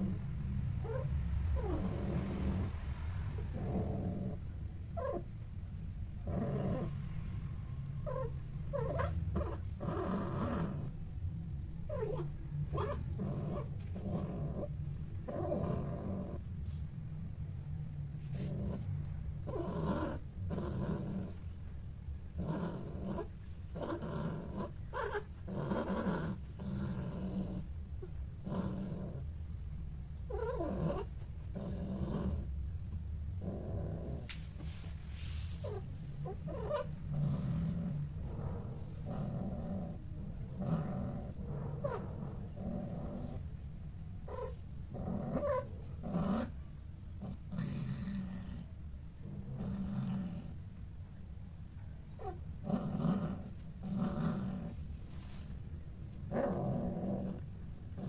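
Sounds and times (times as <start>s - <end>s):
cats growling: 0.0s - 11.2s, 11.8s - 16.8s, 18.2s - 29.4s, 30.2s - 34.9s, 35.5s - 50.8s, 52.0s - 55.4s, 56.1s - 58.0s
steady low rumble: 0.0s - 58.0s.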